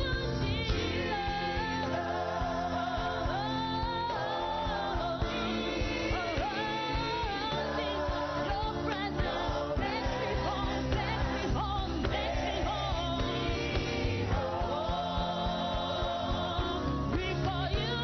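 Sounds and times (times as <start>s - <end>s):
gospel singing: 0.0s - 18.0s
instrumental backing with steady beat: 0.0s - 18.0s.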